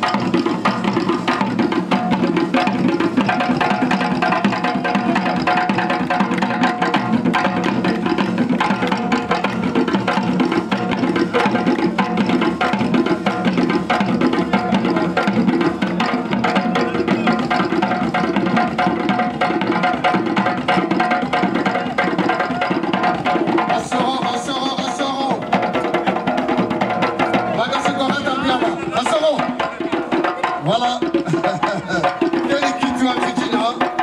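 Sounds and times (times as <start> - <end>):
hand drums playing fast rhythm: 0.0 - 34.0.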